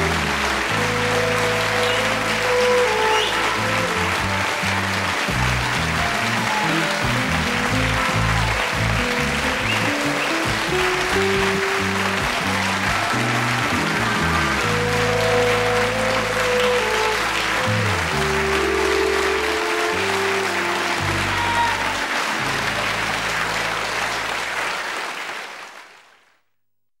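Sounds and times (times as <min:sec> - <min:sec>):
sitcom theme music: 0:00.0 - 0:24.6
studio audience applauding: 0:00.0 - 0:26.3.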